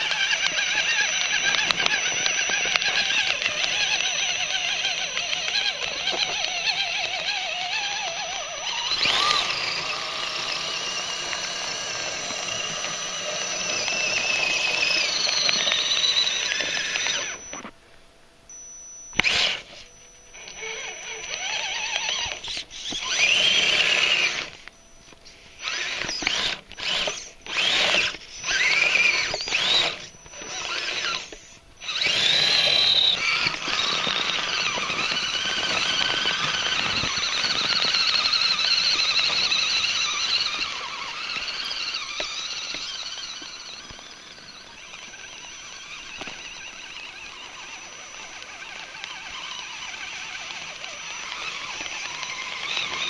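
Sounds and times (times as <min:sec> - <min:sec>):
rc truck electric motor whining: 0:00.0 - 0:17.8, 0:18.5 - 0:53.0.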